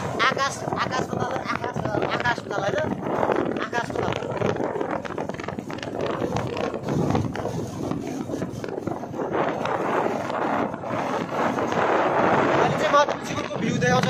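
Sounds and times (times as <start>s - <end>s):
motorbike road noise: 0.0s - 14.0s
wind buffeting microphone: 0.0s - 14.0s.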